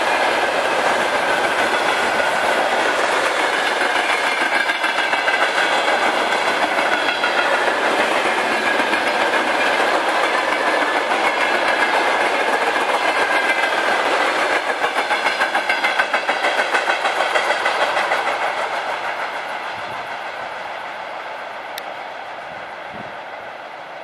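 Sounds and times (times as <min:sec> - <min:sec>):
train wheels clattering over rails: 0:00.0 - 0:20.4.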